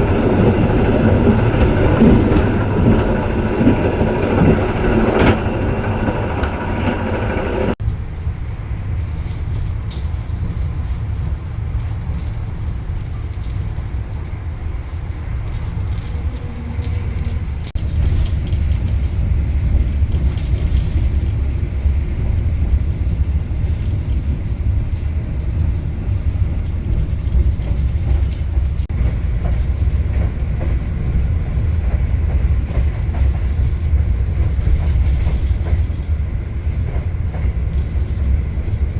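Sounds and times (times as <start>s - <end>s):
train running rumble: 0.0s - 38.9s.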